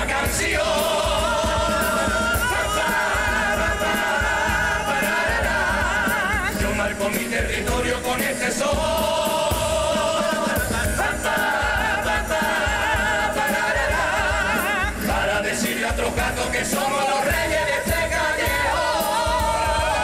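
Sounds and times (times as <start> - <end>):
male chorus singing in harmony: 0.0 - 20.0
steady beat: 0.0 - 20.0.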